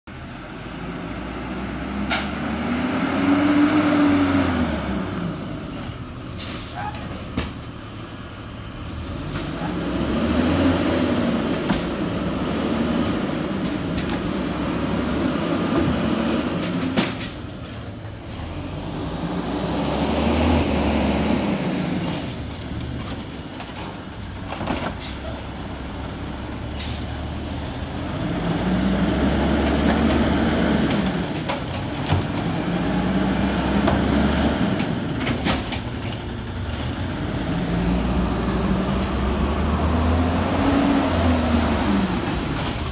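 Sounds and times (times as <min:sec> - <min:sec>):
garbage truck diesel engine revving: 0:00.3 - 0:05.6, 0:08.0 - 0:17.2, 0:18.1 - 0:23.0, 0:25.1 - 0:42.9.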